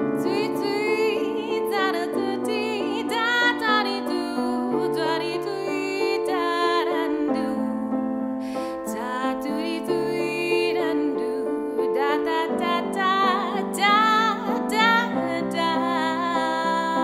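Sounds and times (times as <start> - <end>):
keyboard piano chords: 0.0 - 17.0
woman singing: 0.0 - 17.0.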